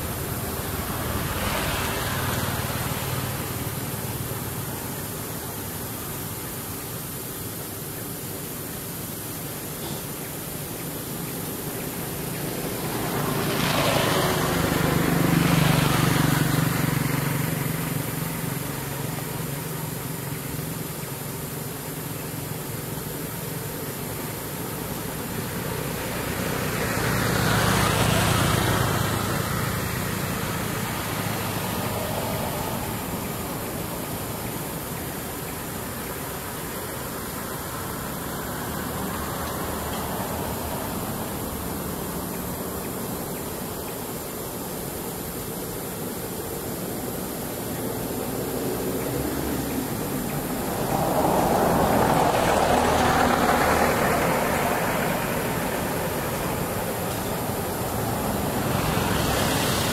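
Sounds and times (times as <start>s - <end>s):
background hiss: 0.0s - 59.9s
vehicles driving past: 0.0s - 59.9s.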